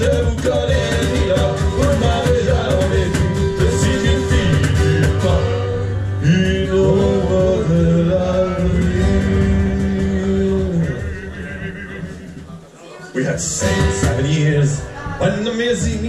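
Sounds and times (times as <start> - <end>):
electric guitar: 0.0 - 16.0
person singing: 0.0 - 16.0
strummed acoustic guitar: 0.0 - 16.0.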